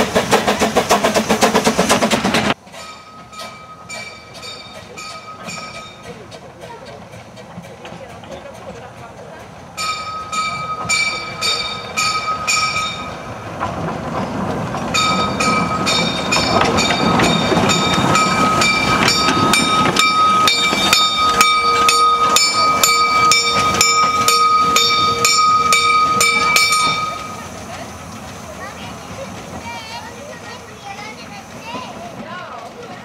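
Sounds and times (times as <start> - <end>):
steam locomotive exhaust beats: 0.0 - 33.0.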